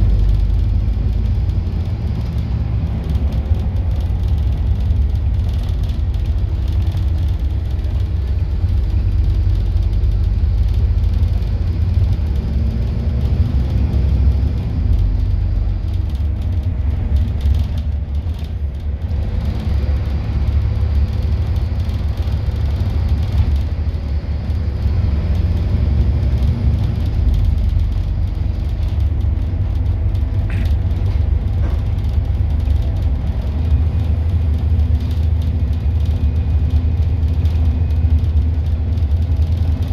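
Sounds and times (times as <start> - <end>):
bus engine low rumble: 0.0 - 39.9.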